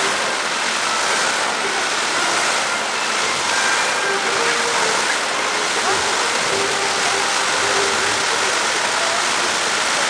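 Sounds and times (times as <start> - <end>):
fountain water jets spraying: 0.0 - 10.0.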